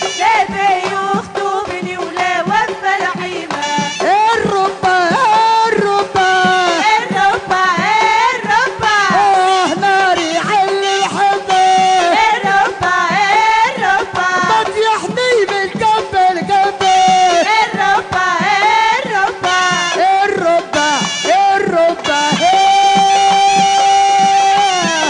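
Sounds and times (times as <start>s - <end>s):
steady percussion rhythm: 0.0s - 25.0s.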